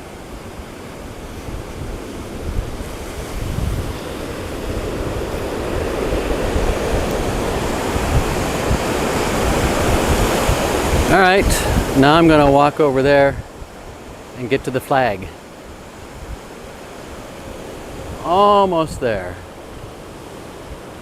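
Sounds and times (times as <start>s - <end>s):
ocean surf washing on shore: 0.0s - 21.0s
wind buffeting microphone: 0.0s - 21.0s.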